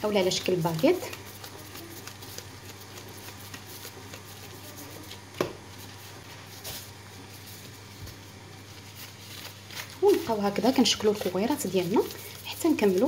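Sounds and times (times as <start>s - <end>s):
squishing of bread dough: 0.0s - 13.0s.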